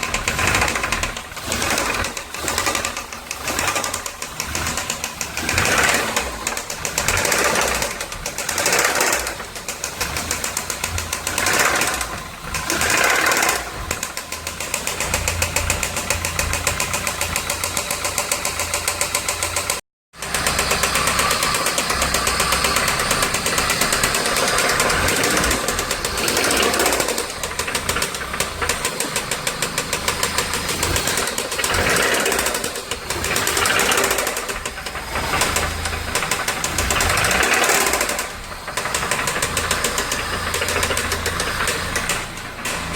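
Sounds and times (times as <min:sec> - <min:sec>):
car engine knocking: 0:00.0 - 0:42.9.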